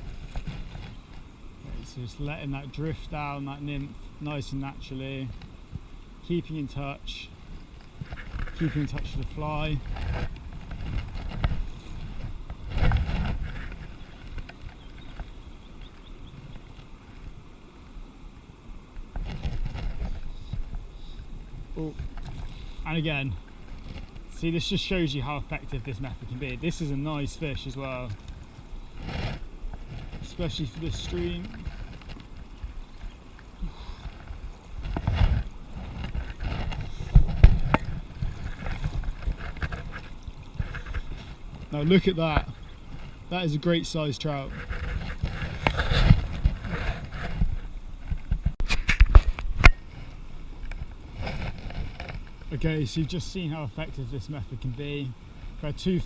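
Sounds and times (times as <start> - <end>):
stream water running: 0.0 - 56.0
wind rumbling on microphone: 0.0 - 56.0.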